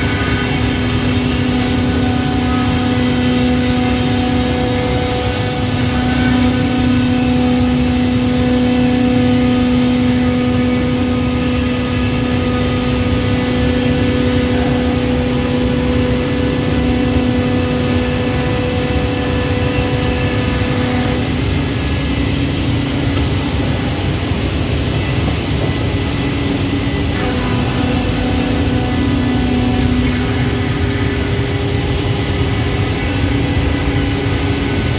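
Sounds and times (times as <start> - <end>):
scroll saw humming: 0.0 - 34.9.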